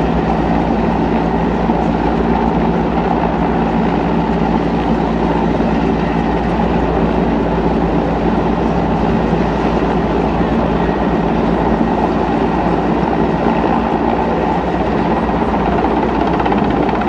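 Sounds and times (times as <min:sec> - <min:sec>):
helicopter rotor and turbine noise: 0:00.0 - 0:17.0.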